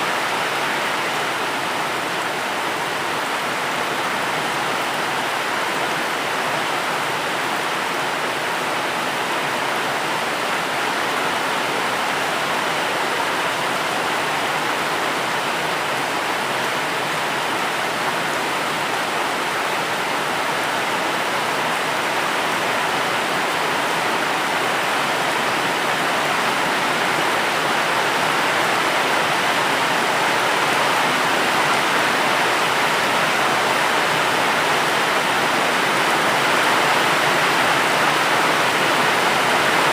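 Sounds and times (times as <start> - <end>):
dense steady rainfall: 0.0 - 39.9.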